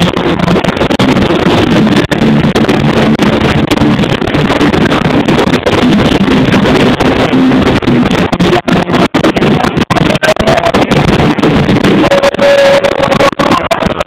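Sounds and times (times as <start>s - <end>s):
punk band playing live distorted: 0.0s - 14.0s.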